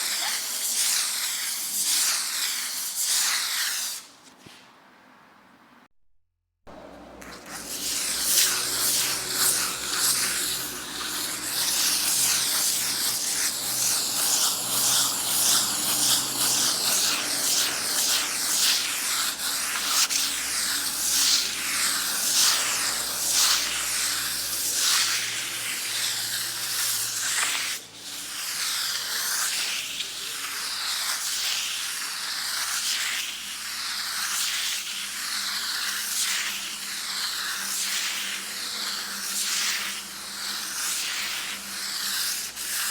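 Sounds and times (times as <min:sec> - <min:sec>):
sandpaper rubbing on a wall: 0:00.0 - 0:04.8, 0:07.2 - 0:42.9.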